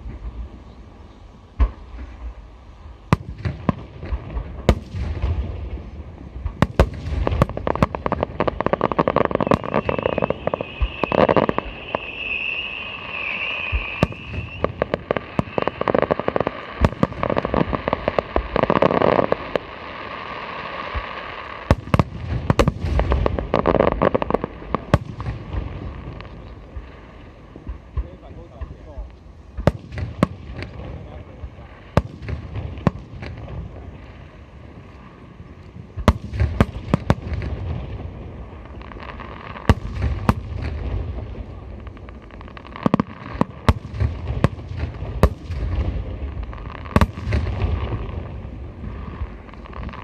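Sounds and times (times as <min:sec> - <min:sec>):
fireworks bursting and crackling: 0:00.0 - 0:50.0.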